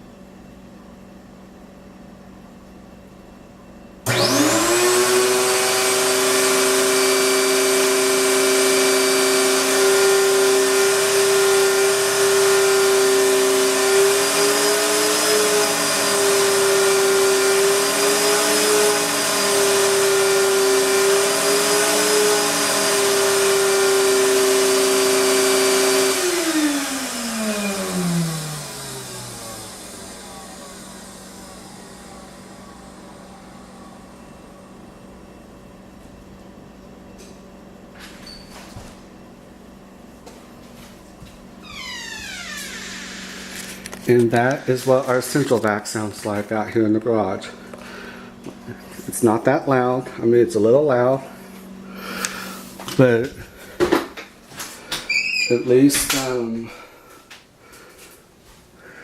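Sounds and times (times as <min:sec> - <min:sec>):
vacuum motor whining: 0:04.0 - 0:36.2, 0:41.6 - 0:58.1.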